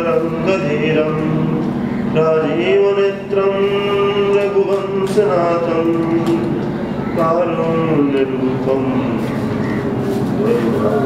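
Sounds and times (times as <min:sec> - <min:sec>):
man singing devotional chant: 0:00.0 - 0:09.6.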